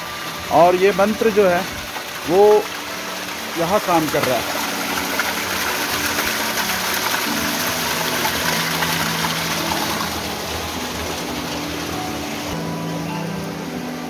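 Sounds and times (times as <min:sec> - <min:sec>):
soft music with held notes: 0:00.0 - 0:14.0
water rushing through channel: 0:00.0 - 0:14.0.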